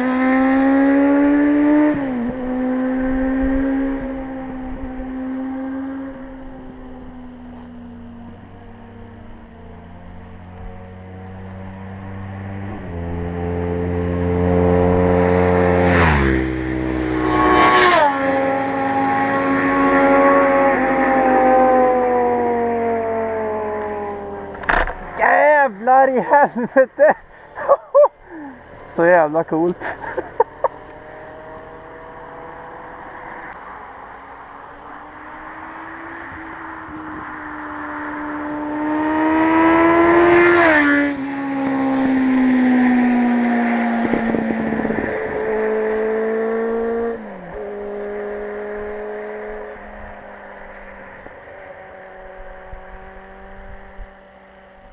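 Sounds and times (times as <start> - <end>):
motorcycles passing at speed: 0.0 - 54.9.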